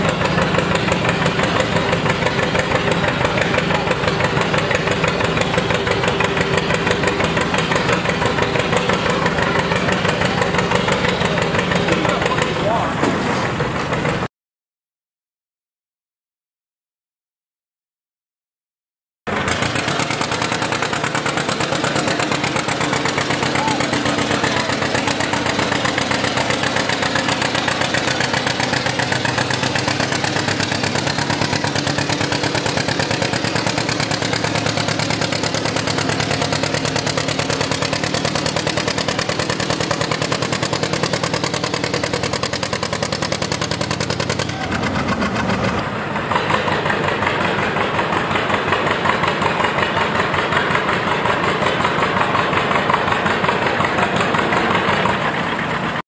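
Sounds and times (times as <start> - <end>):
tractor engine running: 0.0 - 14.3, 19.3 - 56.0
tractor engine under load: 0.0 - 14.3, 19.3 - 56.0.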